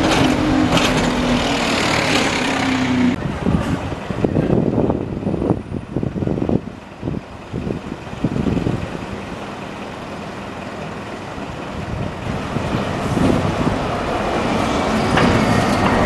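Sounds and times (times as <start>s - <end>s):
large vehicle approaching: 0.0s - 16.0s.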